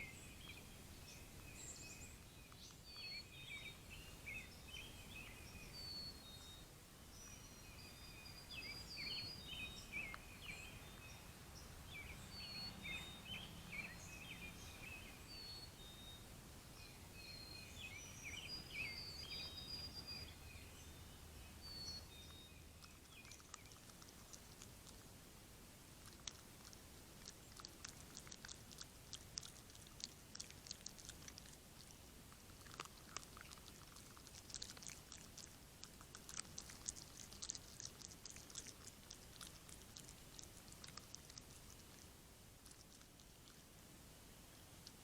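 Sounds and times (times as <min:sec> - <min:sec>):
small birds chirping: 0:00.0 - 0:43.8, 0:44.4 - 0:45.0.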